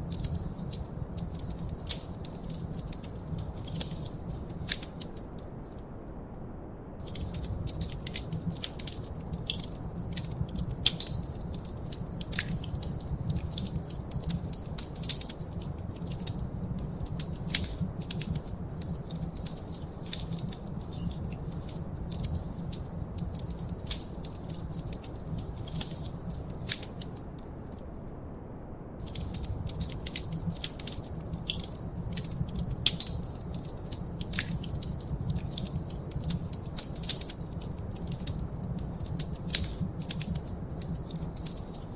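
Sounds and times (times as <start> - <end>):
wood fire crackling: 0.0 - 6.0, 7.0 - 28.0, 29.0 - 41.9.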